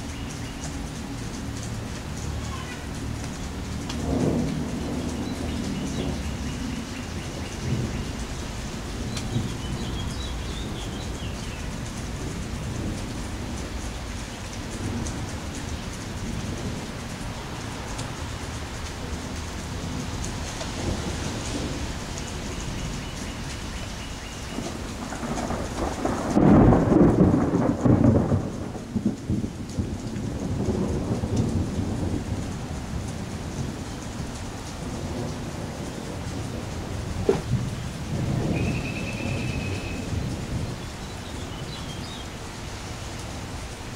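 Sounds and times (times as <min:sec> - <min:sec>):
low rumble of thunder: 0:00.0 - 0:43.9
steady rain falling: 0:00.0 - 0:43.9.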